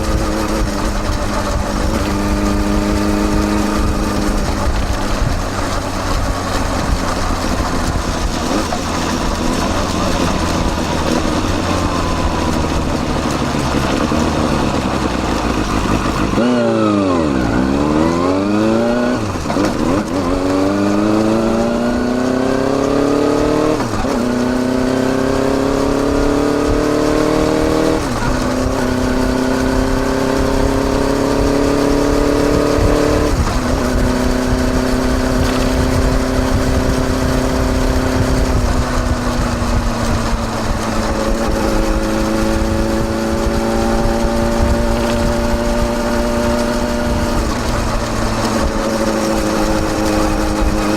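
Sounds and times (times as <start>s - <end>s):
motorcycle accelerating through gears: 0.0s - 50.9s.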